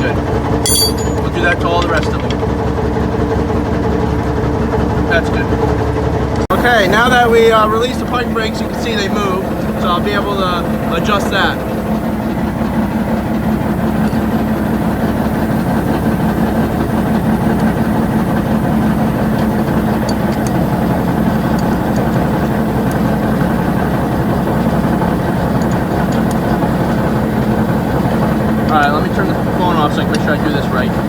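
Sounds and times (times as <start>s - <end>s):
diesel truck engine idling: 1.3s - 31.0s.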